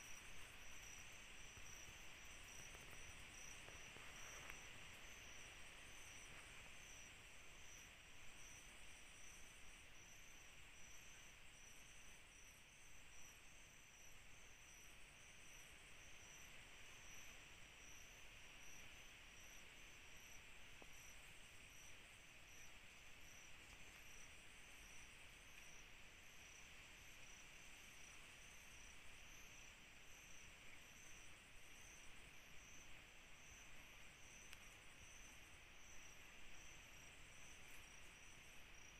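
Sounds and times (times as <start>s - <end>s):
crickets trilling: 0.0s - 38.9s
low hiss: 0.0s - 38.9s
pulsing insect chirp: 0.0s - 38.9s.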